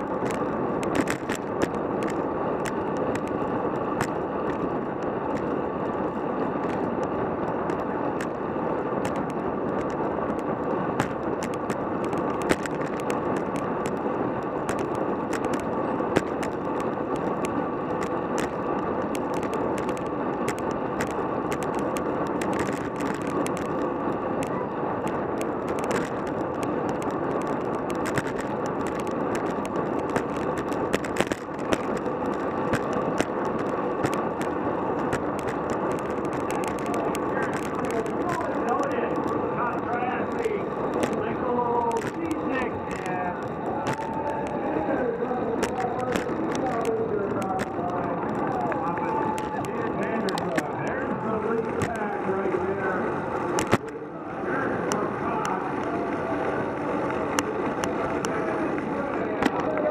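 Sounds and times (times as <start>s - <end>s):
bicycle clicks and rattles: 0.0s - 59.9s
bicycle tyre noise on asphalt: 0.0s - 59.9s
wind noise: 0.0s - 59.9s.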